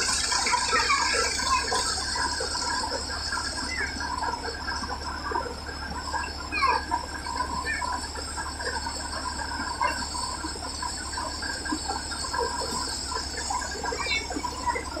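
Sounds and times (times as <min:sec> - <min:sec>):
thresher humming and whining: 0:00.0 - 0:15.0.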